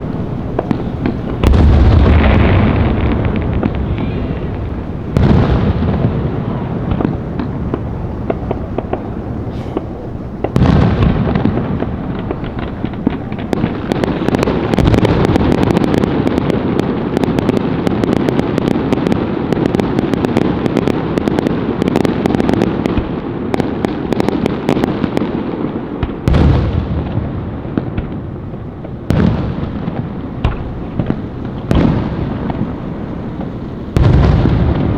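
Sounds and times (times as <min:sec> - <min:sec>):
fireworks booming: 0:00.0 - 0:34.9
fireworks crackling: 0:00.0 - 0:34.9.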